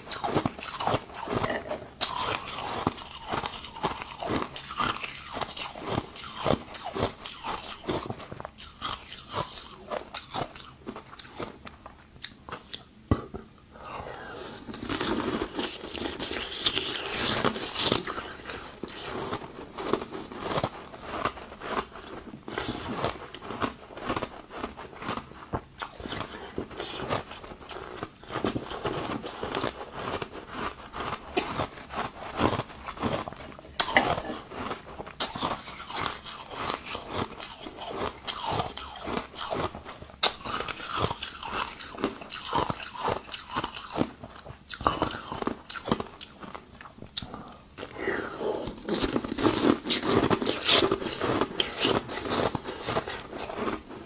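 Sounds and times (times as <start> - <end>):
ice crunching while chewed: 0.0 - 54.0.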